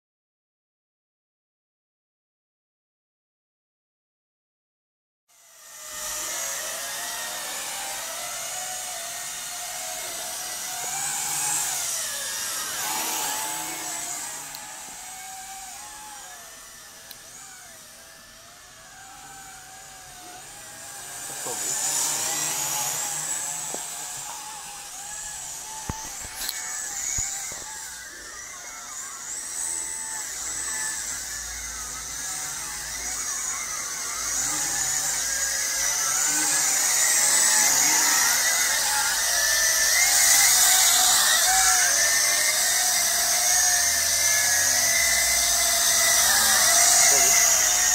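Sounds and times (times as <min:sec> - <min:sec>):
quadcopter propellers whining: 0:05.5 - 0:47.9.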